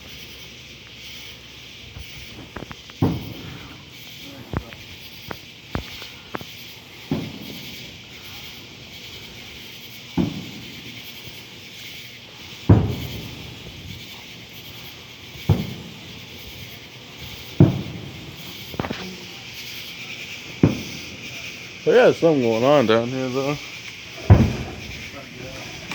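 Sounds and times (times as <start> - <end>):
distant fireworks booming: 0.0 - 25.9
steady high hiss: 0.0 - 25.9.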